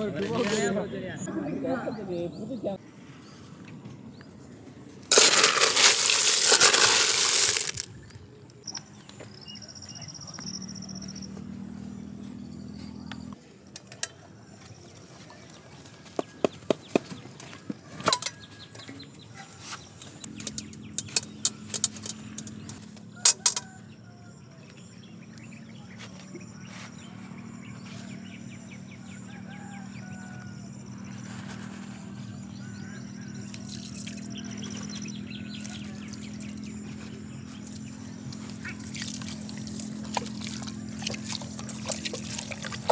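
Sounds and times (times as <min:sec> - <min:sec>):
birds chirping: 0:00.0 - 0:05.0, 0:07.2 - 0:42.9.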